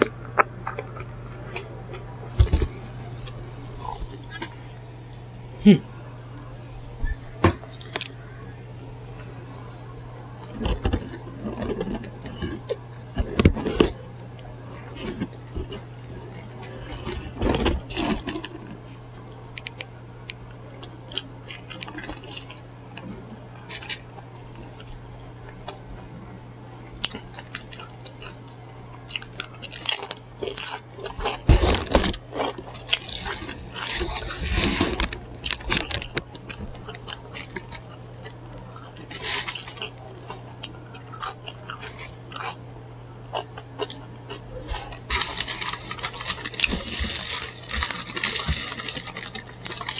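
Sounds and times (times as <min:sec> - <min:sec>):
person chewing crunchy food: 0:00.0 - 0:04.9, 0:08.8 - 0:14.0, 0:14.7 - 0:19.9, 0:20.6 - 0:25.7, 0:26.7 - 0:49.9
low hum: 0:00.0 - 0:49.9.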